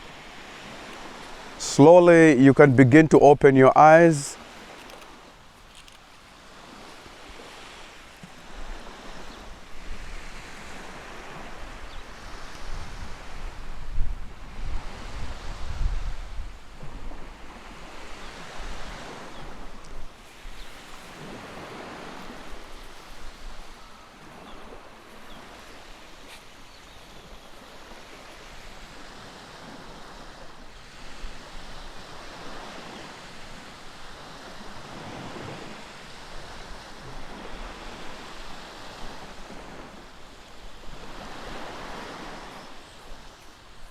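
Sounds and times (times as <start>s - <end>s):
ocean waves washing in: 0.0s - 43.9s.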